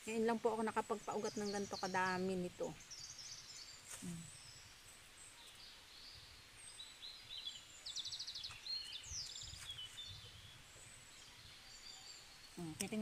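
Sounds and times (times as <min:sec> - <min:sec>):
faint outdoor ambience: 0:00.0 - 0:13.0
small birds chirping: 0:00.1 - 0:13.0.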